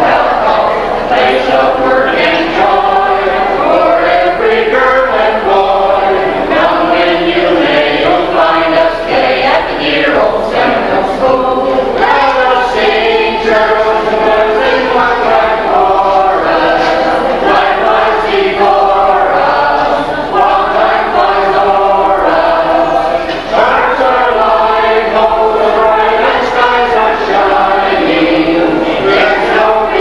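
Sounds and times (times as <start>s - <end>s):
group of people singing: 0.0s - 30.0s.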